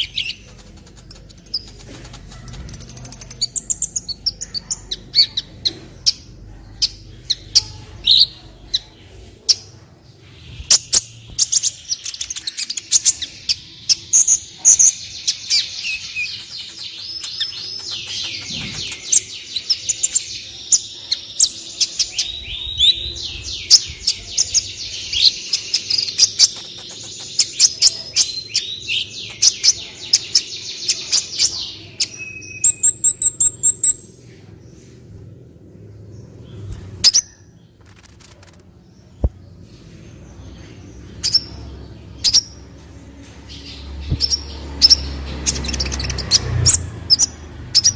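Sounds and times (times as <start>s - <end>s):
bird twittering song: 0.0s - 34.6s, 36.0s - 47.9s.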